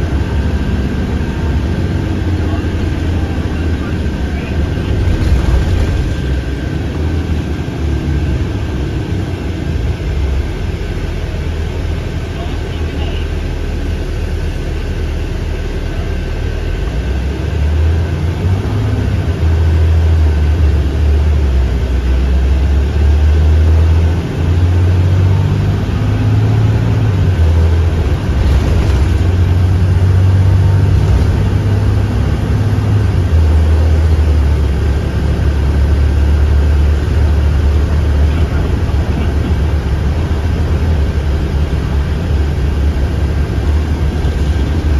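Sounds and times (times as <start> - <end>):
bus engine drone: 0.0 - 44.9
road noise: 0.0 - 44.9.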